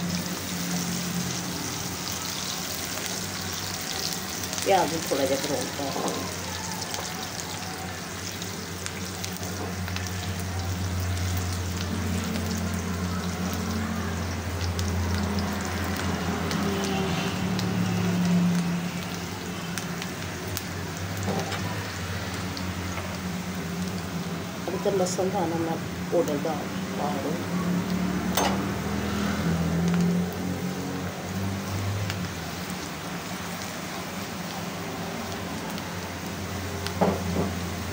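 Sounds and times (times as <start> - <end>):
onions sizzling in hot oil: 0.0 - 37.9.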